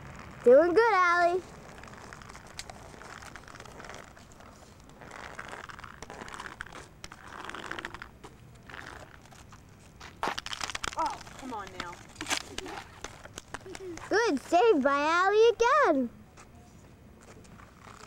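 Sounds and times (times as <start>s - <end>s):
hockey stick scuffing ground: 0.0s - 15.0s.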